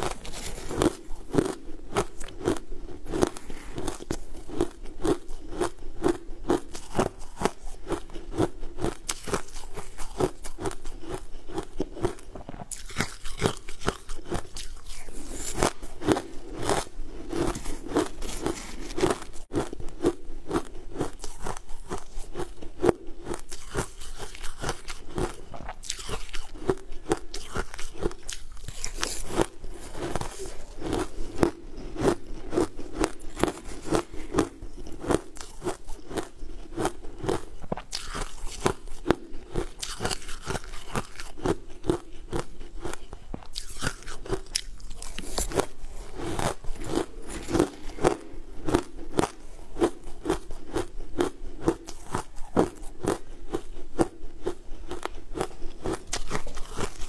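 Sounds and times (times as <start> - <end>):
crunching and chewing frozen food: 0.0 - 57.0.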